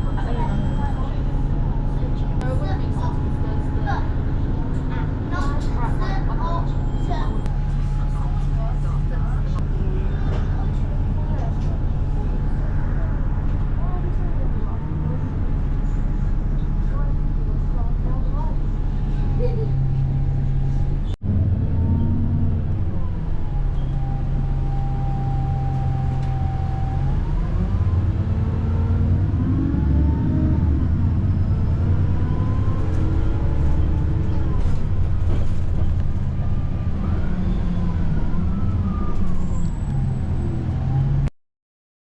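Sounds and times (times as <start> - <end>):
road traffic: 0.0 - 41.3
vehicle engine rumble: 0.0 - 41.3.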